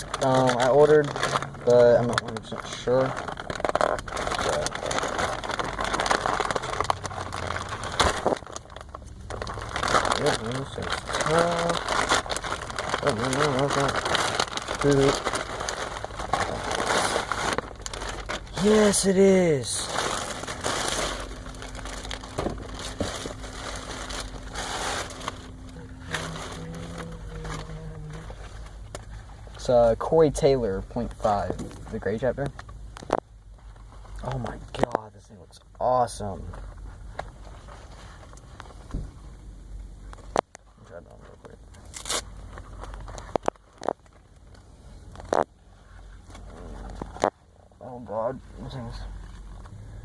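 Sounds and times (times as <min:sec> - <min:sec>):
packaging crackling and rustling: 0:00.0 - 0:29.8, 0:30.4 - 0:35.1, 0:40.0 - 0:47.4
faint steady hum: 0:00.0 - 0:50.0.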